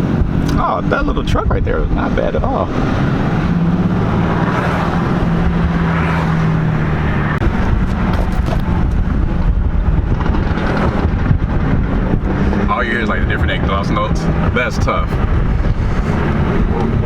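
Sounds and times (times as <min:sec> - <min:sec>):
road rumble: 0:00.0 - 0:17.0
several car engines running: 0:00.0 - 0:17.0.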